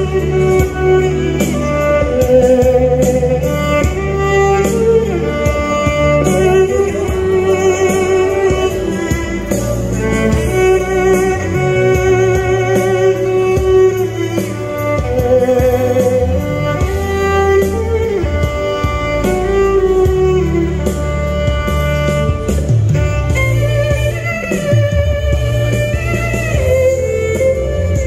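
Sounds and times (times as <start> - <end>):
backing track with bass and beat: 0.0 - 28.0
solo violin melody: 0.0 - 28.0.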